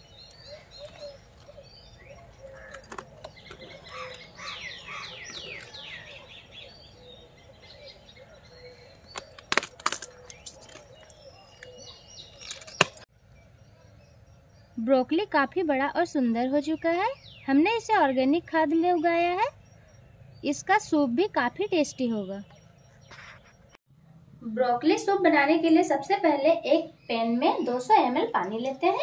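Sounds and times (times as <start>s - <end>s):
small birds chirping: 0.0s - 24.1s, 25.4s - 29.0s.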